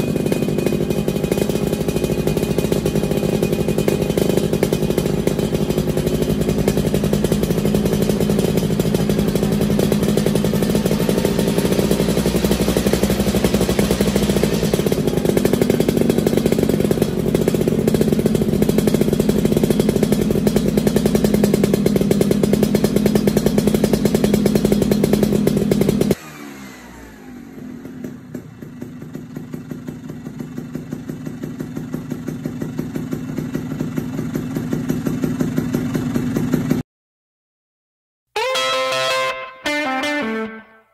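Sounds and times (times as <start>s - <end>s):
two-stroke scooter engine running: 0.0s - 36.8s.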